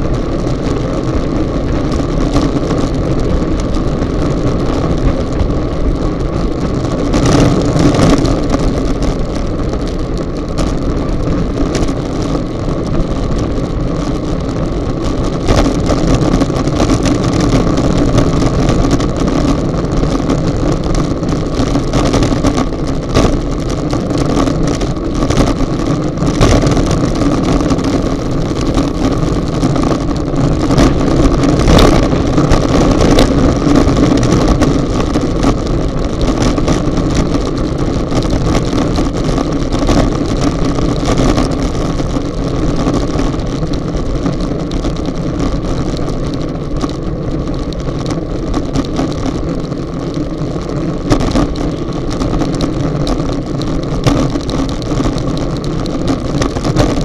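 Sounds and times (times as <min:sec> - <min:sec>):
tyre road rumble: 0:00.0 - 0:57.0
wind rushing over microphone: 0:00.0 - 0:57.0.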